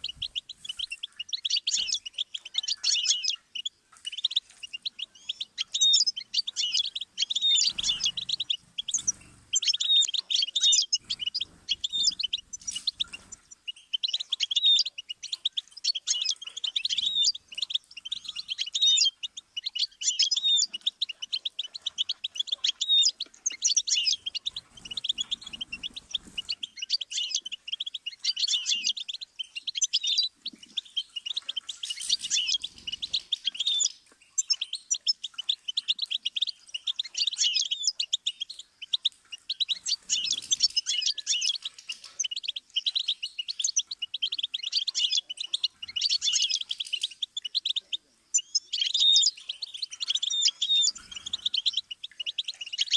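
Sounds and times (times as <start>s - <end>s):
bird twittering song: 0.0s - 52.9s.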